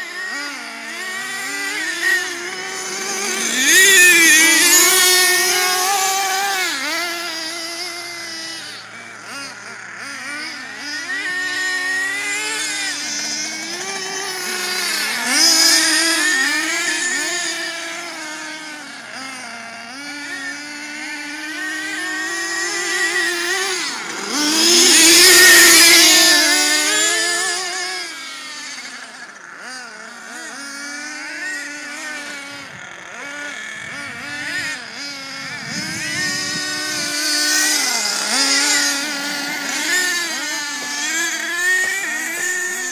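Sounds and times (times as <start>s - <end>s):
rc truck engines revving: 0.0s - 42.9s.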